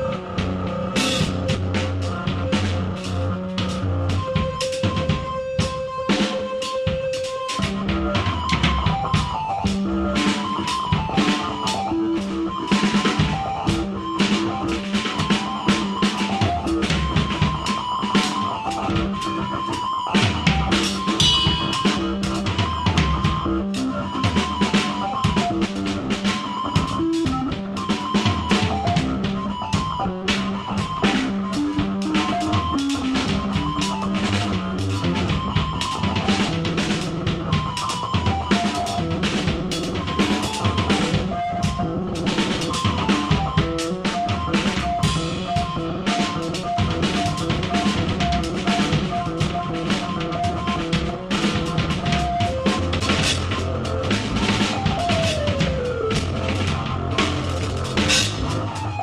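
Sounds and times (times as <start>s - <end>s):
drums hit rapidly: 0.0s - 59.0s
keyboard repeated short notes: 0.0s - 59.0s.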